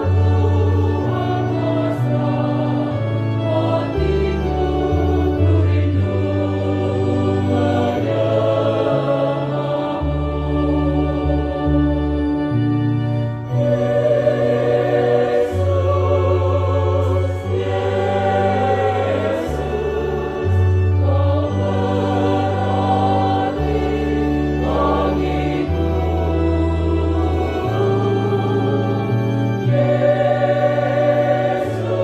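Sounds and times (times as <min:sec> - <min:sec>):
choir singing: 0:00.0 - 0:32.0
sustained low bass notes: 0:00.0 - 0:32.0.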